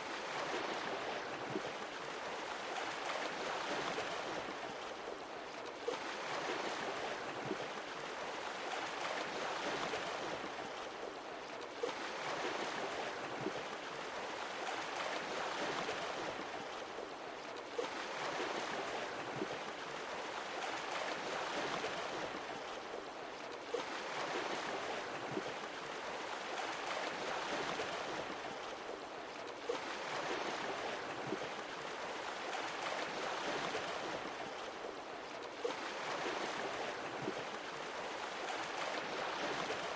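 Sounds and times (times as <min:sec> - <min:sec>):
sea waves on shore: 0:00.0 - 0:39.9.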